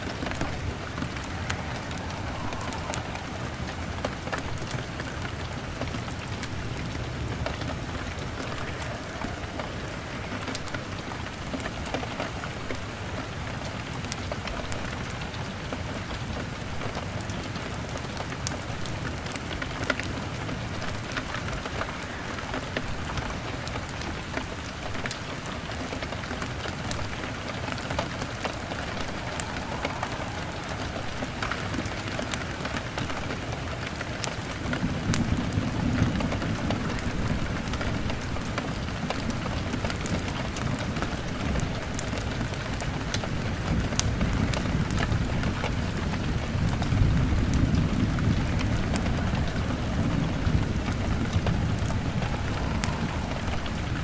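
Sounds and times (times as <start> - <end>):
log fire crackling: 0.0 - 15.3, 16.1 - 54.0
rain on a window pane: 0.0 - 54.0.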